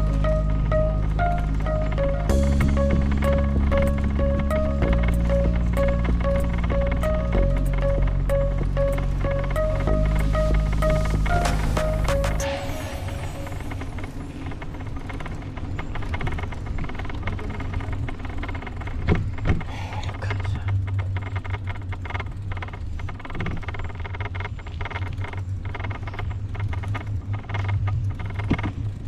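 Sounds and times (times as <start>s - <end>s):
bicycle rattles and clicks: 0.0s - 12.4s, 13.7s - 29.0s
bicycle tyres rumbling on road: 0.0s - 29.0s.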